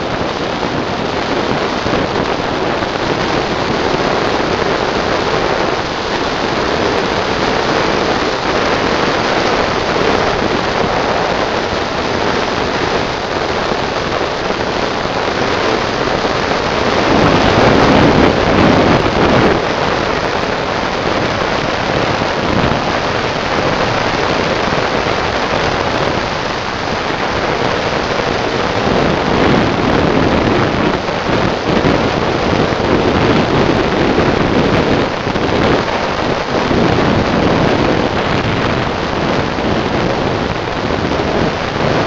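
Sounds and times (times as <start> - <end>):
wind rush over microphone: 0.0 - 42.0.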